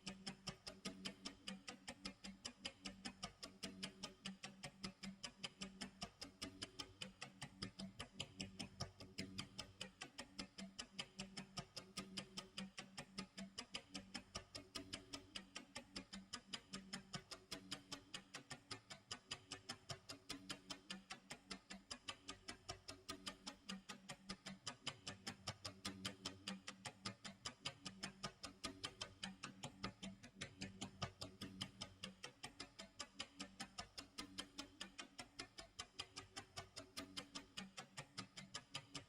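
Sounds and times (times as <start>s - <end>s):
clock ticking: 0.0s - 39.0s.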